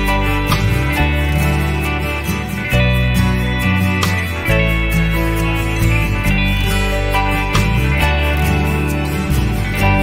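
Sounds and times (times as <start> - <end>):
plucked guitar over steady beat: 0.0 - 10.0.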